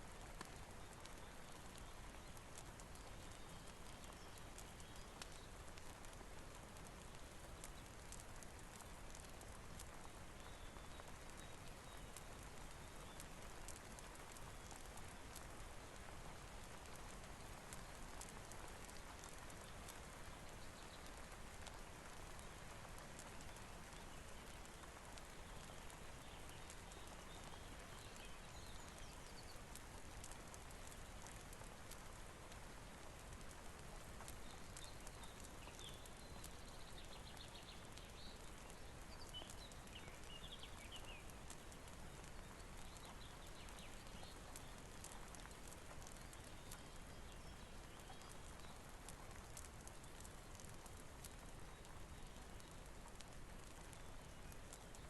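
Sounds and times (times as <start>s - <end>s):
faint ticks and crackles: 0.0s - 55.0s
soft rain falling: 0.0s - 55.0s.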